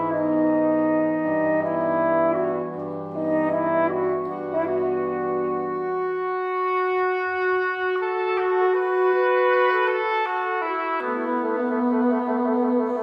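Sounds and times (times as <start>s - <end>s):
wind ensemble playing held chords: 0.0s - 13.0s.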